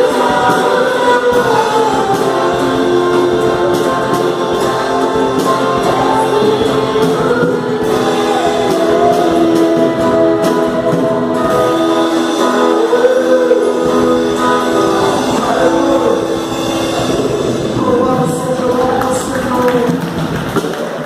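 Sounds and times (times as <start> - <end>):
gospel voices singing: 0.0 - 20.2
instrumental accompaniment: 0.0 - 20.8.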